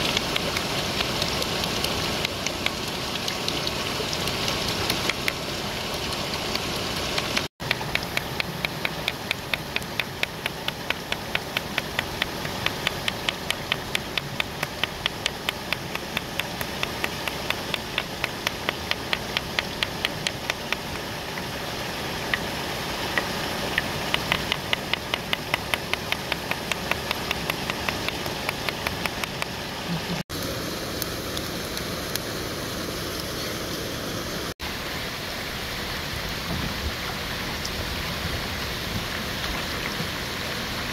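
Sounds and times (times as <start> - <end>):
stream and waterfall rushing: 0.0 - 40.9.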